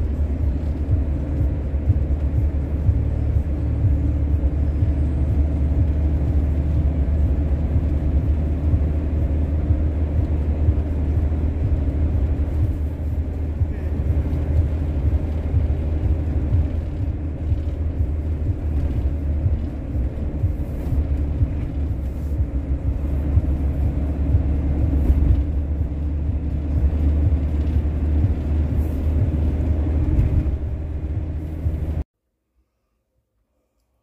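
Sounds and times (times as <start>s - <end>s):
engine and road rumble: 0.0s - 32.1s.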